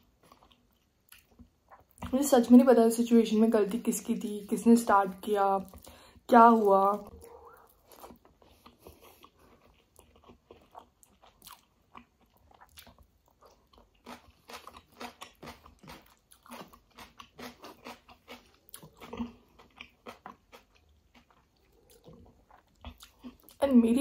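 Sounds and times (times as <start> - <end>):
person chewing food: 0.0 - 2.2, 5.7 - 6.2, 7.0 - 23.6.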